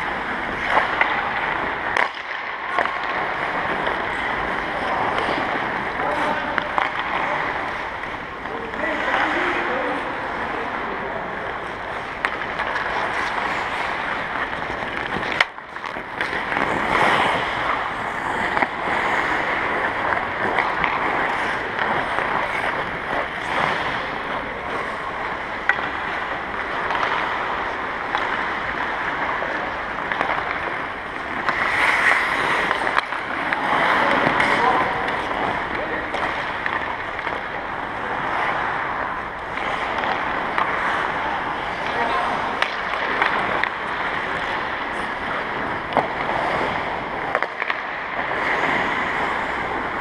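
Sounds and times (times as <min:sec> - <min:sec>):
hockey sticks and pucks knocking: 0:00.0 - 0:50.0
ice skate blades scraping ice: 0:00.0 - 0:50.0.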